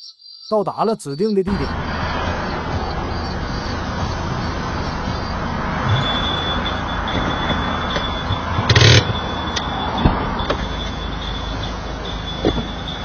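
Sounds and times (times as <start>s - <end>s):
thin high whine: 1.5s - 13.0s
steady workshop rumble: 1.6s - 13.0s.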